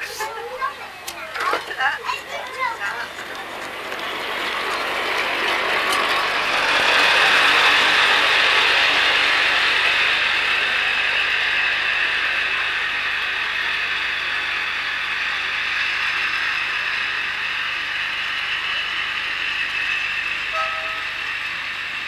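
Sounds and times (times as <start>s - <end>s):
miniature train clattering on rails: 0.0s - 22.0s.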